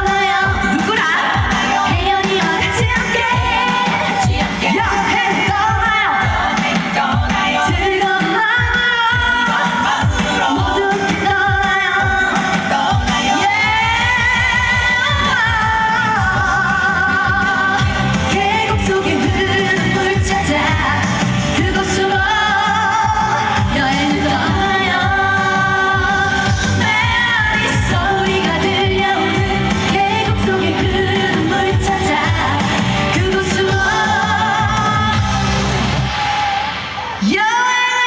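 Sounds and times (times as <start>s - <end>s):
backing track with steady beat: 0.0s - 38.0s
woman singing with vibrato: 0.0s - 38.0s.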